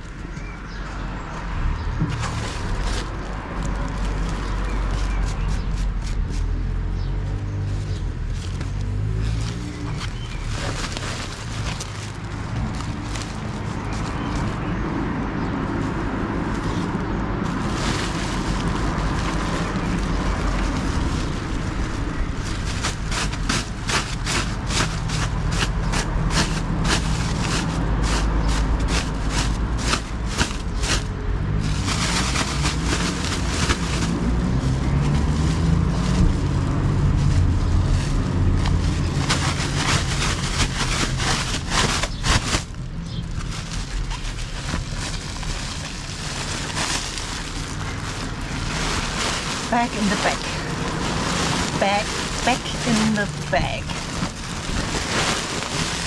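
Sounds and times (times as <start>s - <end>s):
bag and clothes rustling: 0.0s - 0.8s, 1.8s - 56.0s
wind rumbling on microphone: 0.0s - 56.0s.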